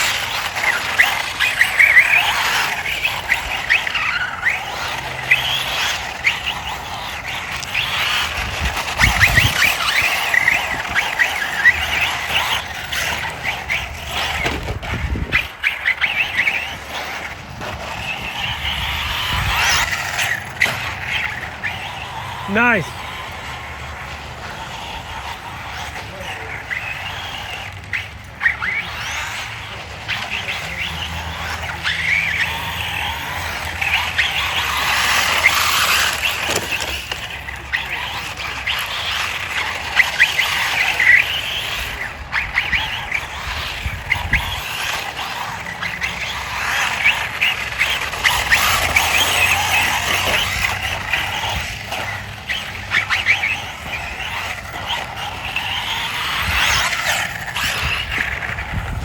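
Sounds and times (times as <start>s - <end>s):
radio-controlled car motor: 0.0s - 59.0s
tyre noise: 0.0s - 59.0s.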